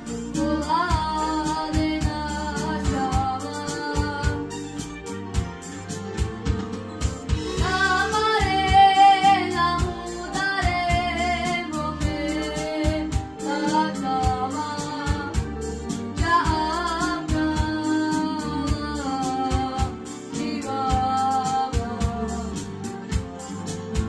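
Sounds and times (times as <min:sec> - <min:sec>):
instrumental backing with steady beat: 0:00.0 - 0:24.0.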